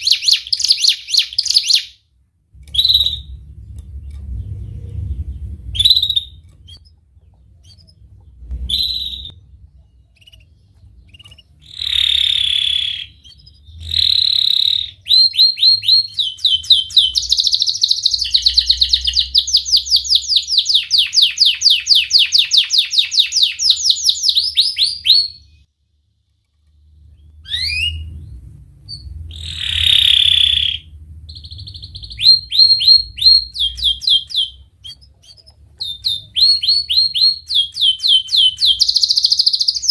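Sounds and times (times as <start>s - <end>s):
canary singing: 0.0s - 25.7s, 26.7s - 39.9s.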